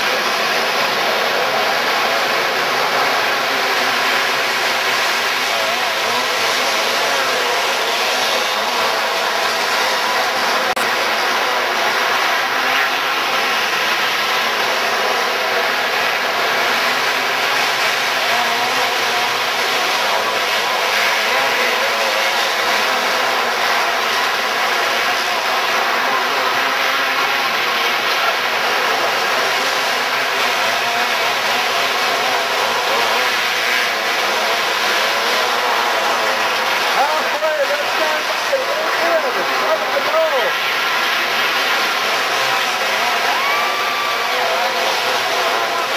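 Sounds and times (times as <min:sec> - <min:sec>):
dirt kart engines running: 0:00.0 - 0:45.9.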